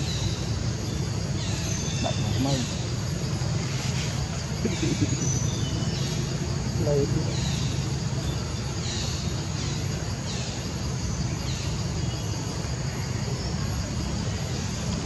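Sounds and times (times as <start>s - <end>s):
steady low rumble: 2.1s - 15.0s.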